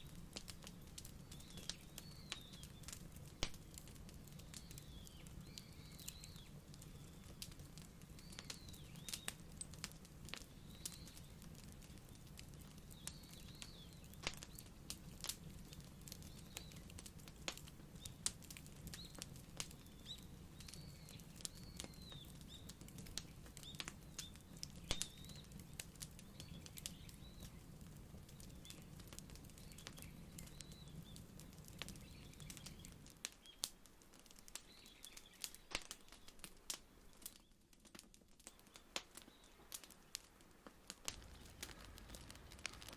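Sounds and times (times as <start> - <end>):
birds chirping: 0.0 - 14.7, 15.4 - 18.3, 18.9 - 33.7, 34.3 - 36.4, 41.1 - 42.9
wood fire crackling and popping: 0.0 - 42.9.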